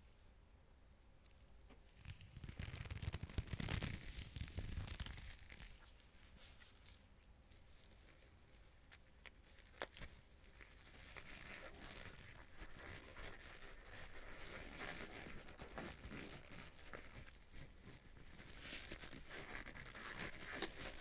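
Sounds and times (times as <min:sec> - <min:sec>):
hands rustling and crinkling: 0:01.2 - 0:21.0.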